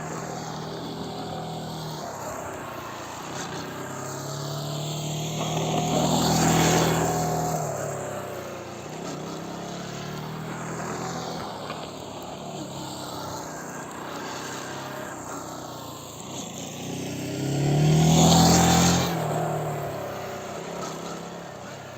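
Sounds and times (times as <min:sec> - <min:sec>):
motorcycle engine passing: 0:00.0 - 0:21.9.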